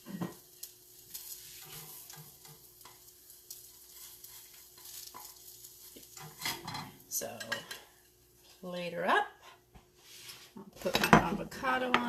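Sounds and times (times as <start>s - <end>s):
egg sizzling in a pan: 0.0s - 10.1s.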